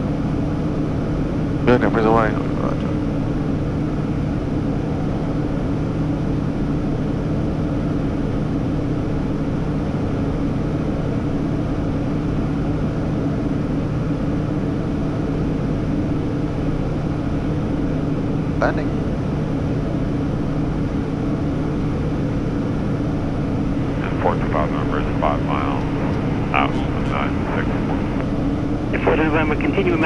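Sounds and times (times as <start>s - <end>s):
jet engine hum: 0.0s - 30.0s.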